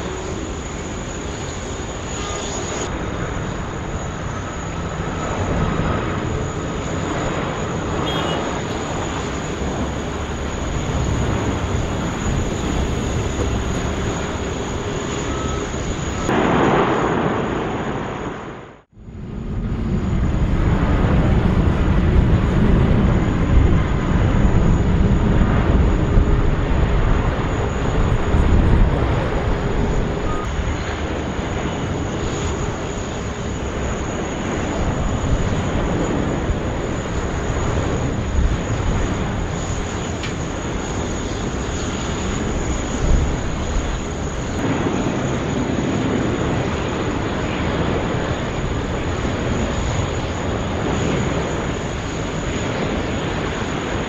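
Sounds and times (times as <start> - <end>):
jet airliner engine noise: 0.0 - 54.0.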